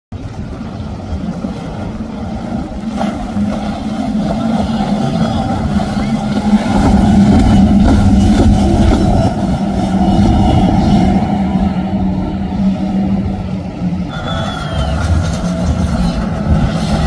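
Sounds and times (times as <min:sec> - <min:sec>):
outboard engines droning: 0:00.1 - 0:17.0
hull wash and spray: 0:00.2 - 0:17.0.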